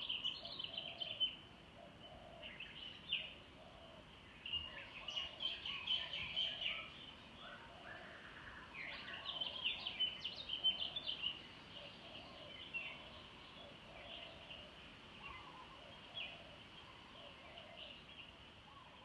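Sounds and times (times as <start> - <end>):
faint background noise: 0.0 - 19.0
small birds chirping: 0.0 - 19.0.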